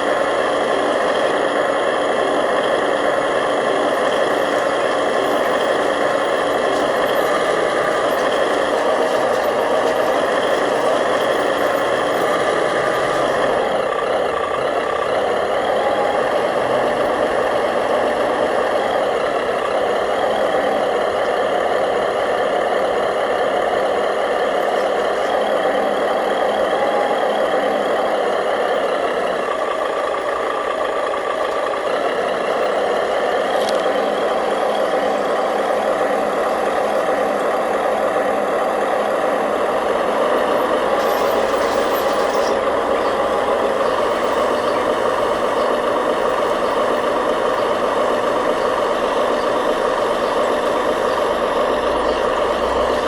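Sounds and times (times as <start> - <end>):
model machine motor and gear whine: 0.0 - 53.0.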